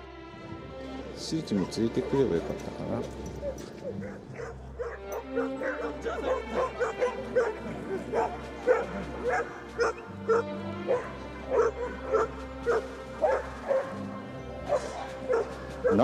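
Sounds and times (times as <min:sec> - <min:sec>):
background music: 0:00.0 - 0:16.0
dog barking: 0:01.6 - 0:16.0.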